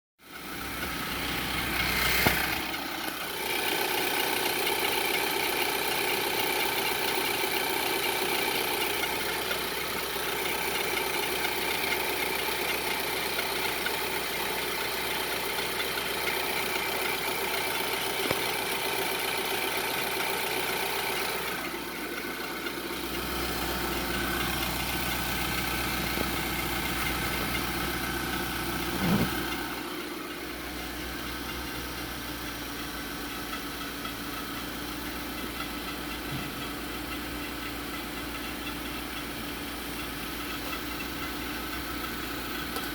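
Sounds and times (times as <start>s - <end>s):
car engine starting and idling: 0.2s - 42.9s.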